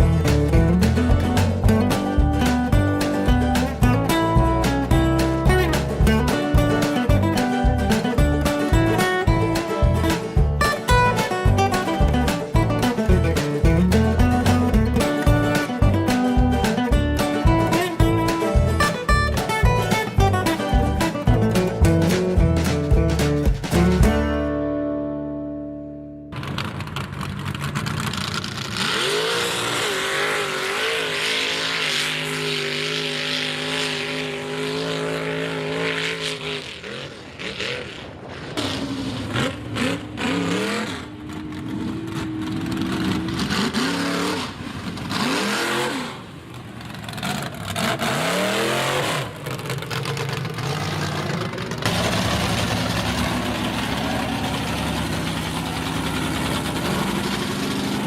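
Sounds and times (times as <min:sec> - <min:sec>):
truck engine revving: 0:00.0 - 0:24.8, 0:26.3 - 0:58.0.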